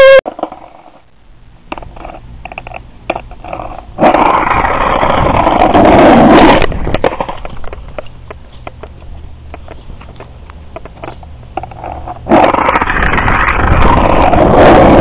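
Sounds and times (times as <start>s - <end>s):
skateboard clicks and knocks: 0.0s - 1.0s, 1.7s - 15.0s
skateboard wheels rumbling on concrete: 0.0s - 1.0s, 1.6s - 15.0s.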